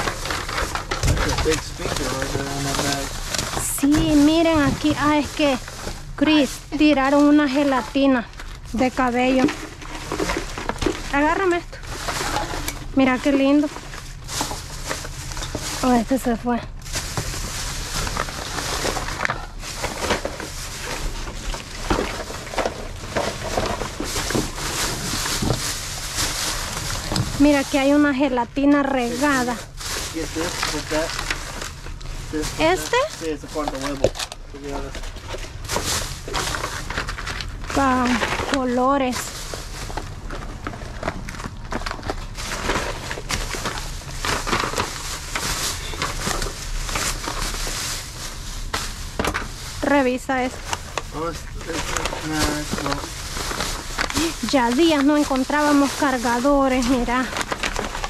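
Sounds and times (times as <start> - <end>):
plastic bags rustling: 0.0 - 58.0
small items clattering: 0.0 - 58.0
steady low rumble: 0.0 - 58.0.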